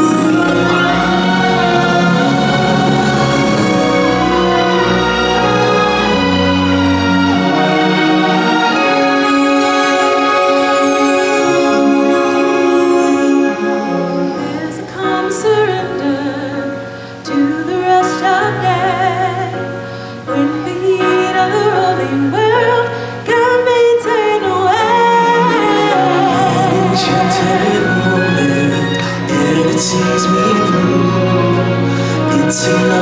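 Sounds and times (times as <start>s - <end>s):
orchestral show music: 0.0s - 33.0s
person singing with vibrato: 0.0s - 33.0s.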